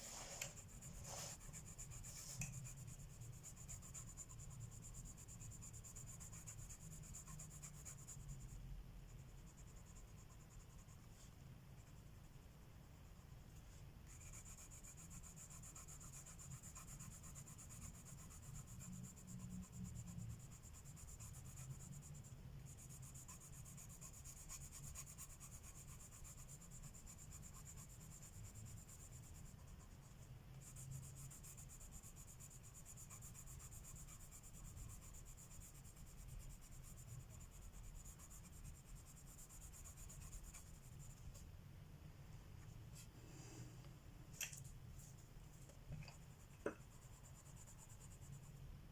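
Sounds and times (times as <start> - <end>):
pencil scratching on paper: 0.0 - 12.6, 13.6 - 41.4, 45.0 - 48.7.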